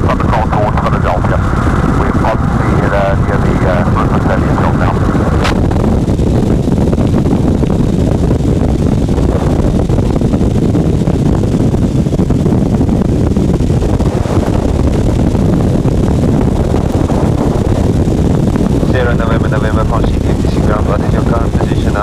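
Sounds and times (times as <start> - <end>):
light aircraft engine running: 0.0 - 22.0
wind buffeting microphone: 0.0 - 22.0.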